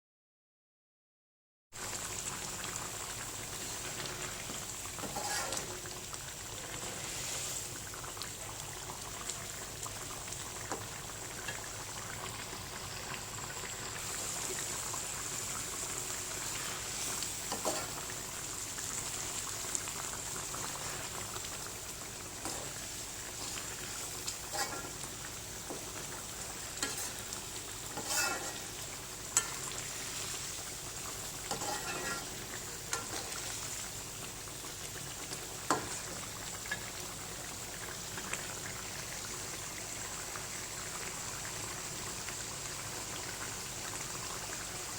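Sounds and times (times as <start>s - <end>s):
curry sizzling in a pan: 1.8s - 44.9s.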